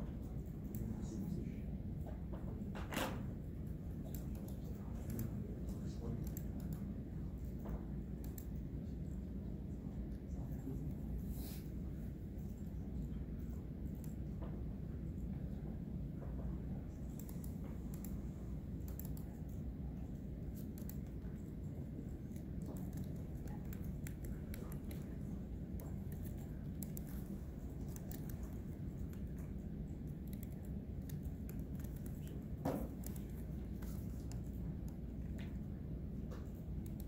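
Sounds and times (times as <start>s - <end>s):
low room hum: 0.0s - 37.0s.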